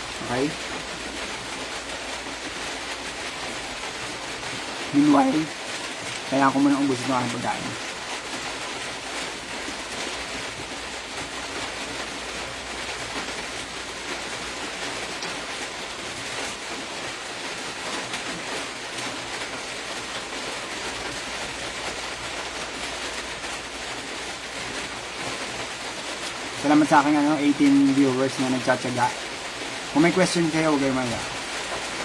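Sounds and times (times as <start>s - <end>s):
steady rain-like hiss: 0.0s - 32.0s.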